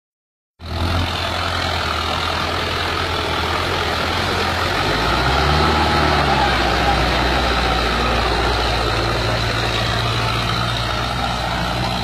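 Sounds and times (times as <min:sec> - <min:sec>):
tractor engine running: 0:00.6 - 0:12.0.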